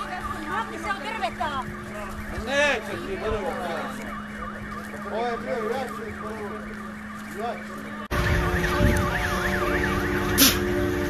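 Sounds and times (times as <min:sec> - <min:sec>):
car alarms wailing: 0:00.0 - 0:11.0.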